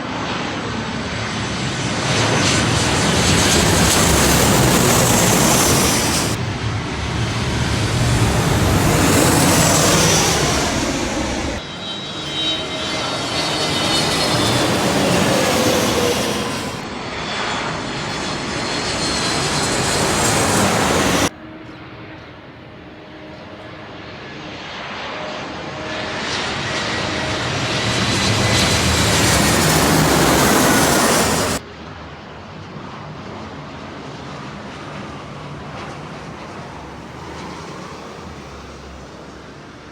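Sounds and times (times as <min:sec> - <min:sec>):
aeroplanes flying low overhead: 0:00.0 - 0:39.9
distant plane engine: 0:00.0 - 0:39.9.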